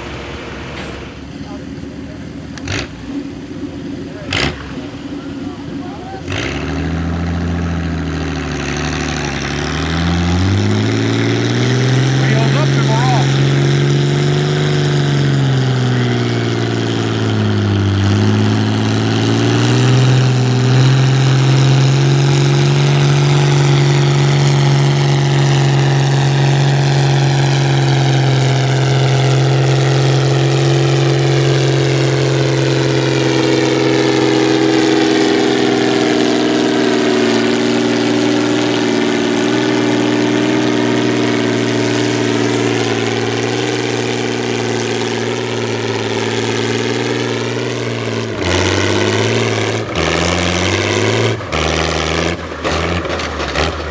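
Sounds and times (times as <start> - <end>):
tractor engine under load: 0.0 - 53.9.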